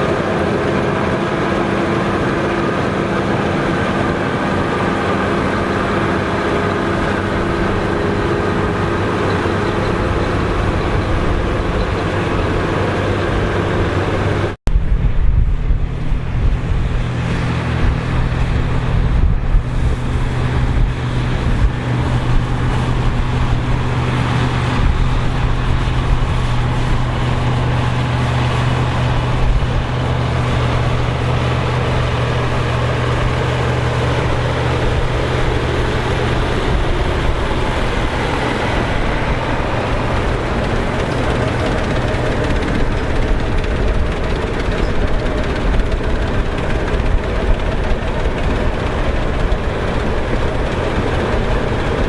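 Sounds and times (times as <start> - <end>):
heavy machinery engine running: 0.0 - 52.0.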